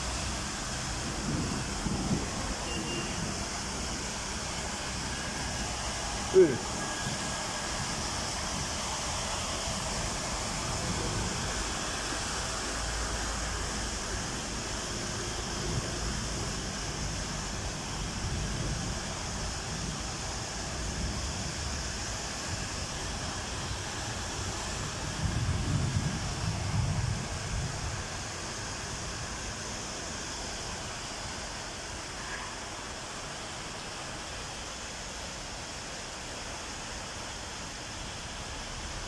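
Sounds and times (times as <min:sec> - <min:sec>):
car driving through water: 0:00.0 - 0:39.0
floodwater rushing: 0:00.0 - 0:39.0.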